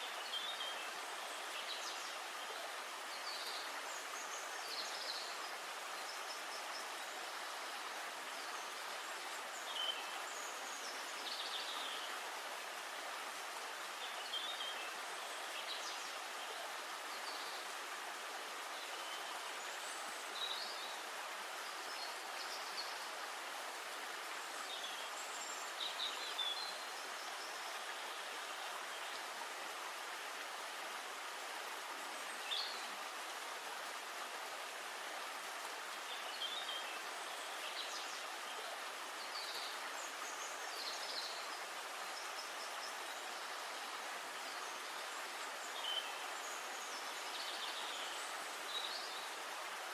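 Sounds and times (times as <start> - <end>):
steady forest hiss: 0.0 - 49.9.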